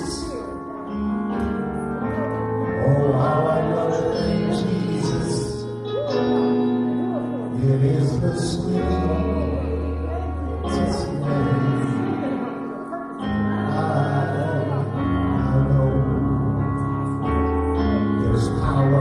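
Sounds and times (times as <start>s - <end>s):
man singing gospel song: 0.0s - 0.6s, 2.6s - 6.0s, 7.4s - 19.0s
instrumental backing of low notes: 0.0s - 19.0s.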